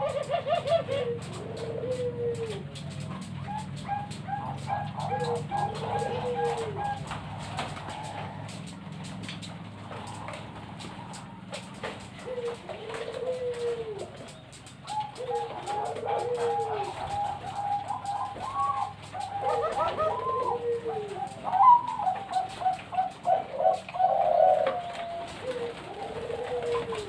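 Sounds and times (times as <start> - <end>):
doves cooing low: 0.0 - 27.0.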